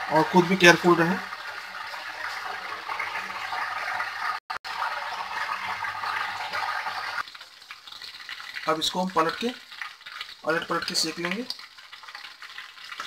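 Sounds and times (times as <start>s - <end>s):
banana slices sizzling in oil: 0.0s - 13.0s.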